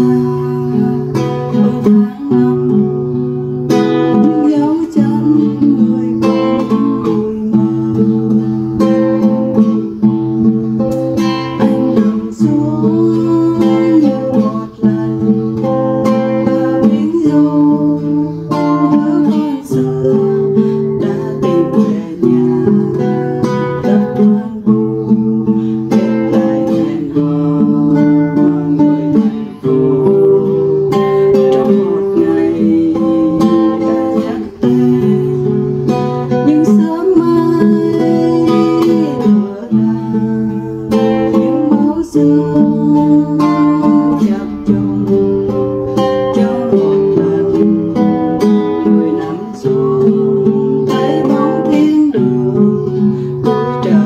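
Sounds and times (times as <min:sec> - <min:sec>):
classical guitar chords: 0:00.0 - 0:54.0
woman singing a ballad: 0:00.0 - 0:54.0.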